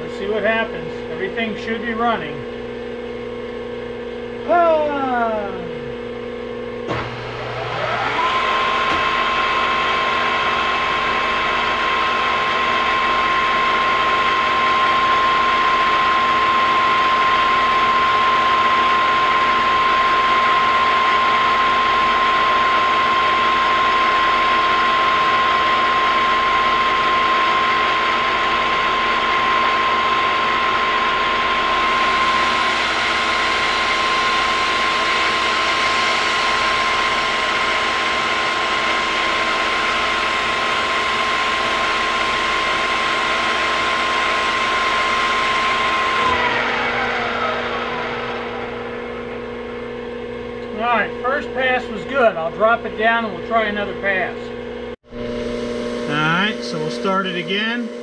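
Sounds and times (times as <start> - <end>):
milling machine whine: 0.0 - 58.0.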